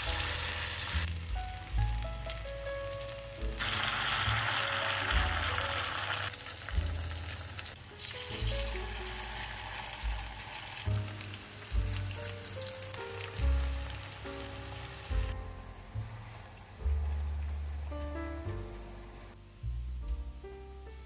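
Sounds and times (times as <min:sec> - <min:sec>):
fritters sizzling in a frying pan: 0:00.0 - 0:18.1
light background music: 0:00.0 - 0:21.0.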